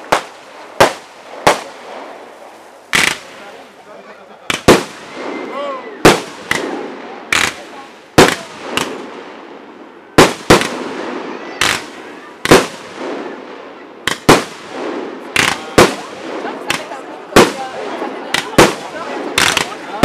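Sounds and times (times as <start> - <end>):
fireworks banging: 0.0 - 20.0.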